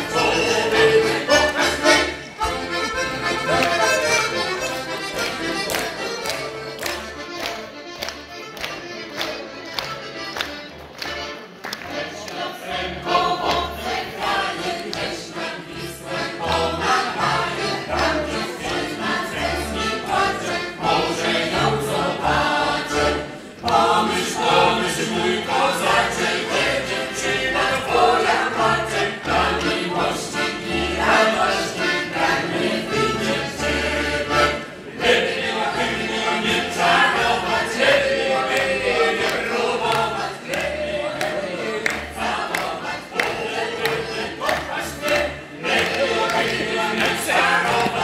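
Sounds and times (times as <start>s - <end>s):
choir singing: 0.0s - 6.4s, 11.9s - 48.0s
accordions: 0.0s - 48.0s
balalaika: 0.0s - 48.0s.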